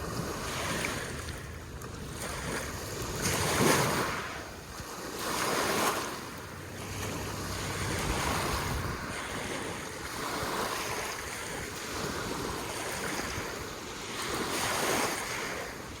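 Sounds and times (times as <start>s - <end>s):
waves lapping on shore: 0.0s - 16.0s
wind rumbling on microphone: 0.0s - 16.0s.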